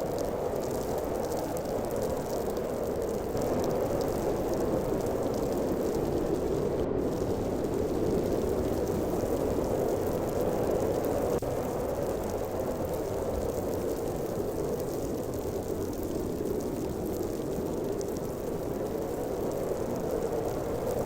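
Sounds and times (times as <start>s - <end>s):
howling wind: 0.0s - 21.0s.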